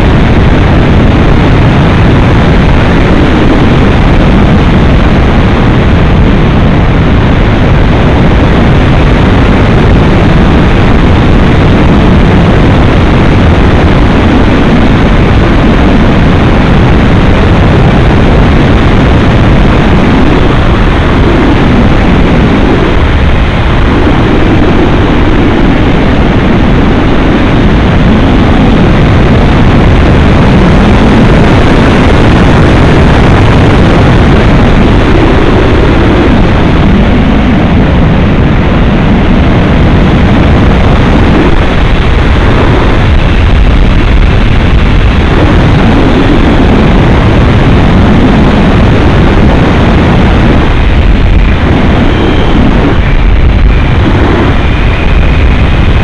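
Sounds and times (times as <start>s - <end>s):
loud wind rush: 0.0s - 56.0s.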